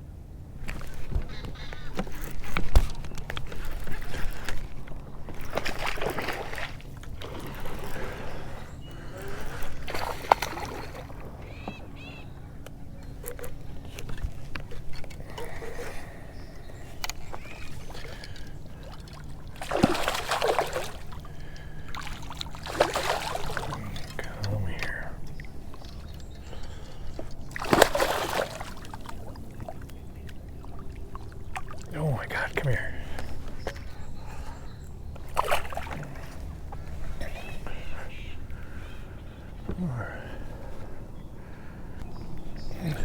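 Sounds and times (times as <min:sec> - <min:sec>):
low steady hum: 0:00.0 - 0:43.0
water sloshing against kayak hull: 0:00.4 - 0:43.0.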